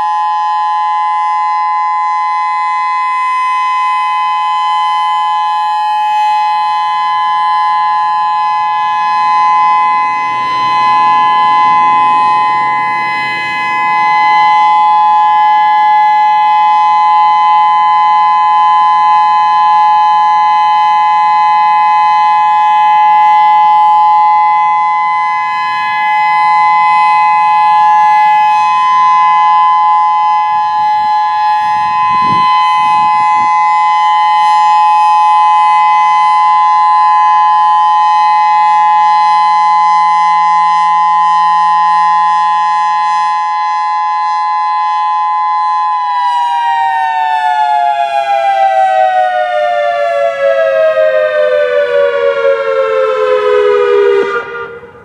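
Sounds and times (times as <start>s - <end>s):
electronic warning siren: 0.0s - 55.0s.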